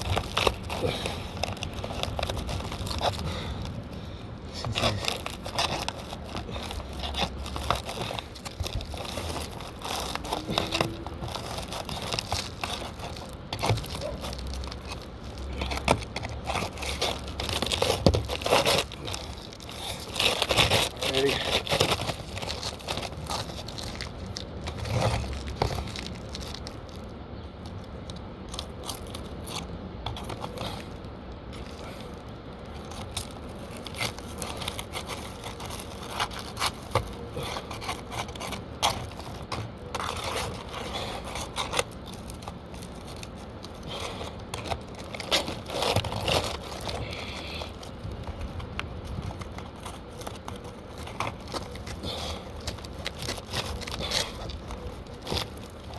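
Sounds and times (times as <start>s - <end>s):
shingles scraping and crackling: 0.0s - 55.9s.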